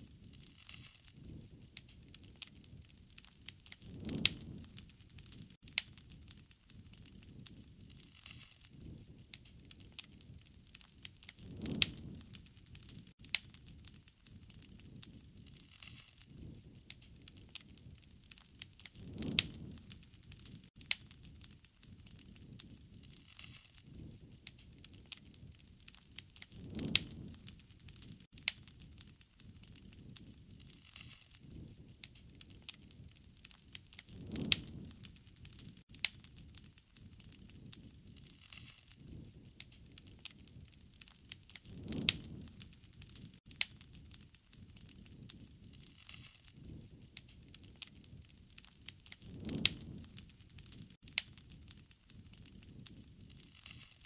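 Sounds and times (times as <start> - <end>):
low rush of flame: 0.0 - 54.0
wood fire crackling and popping: 0.0 - 54.0.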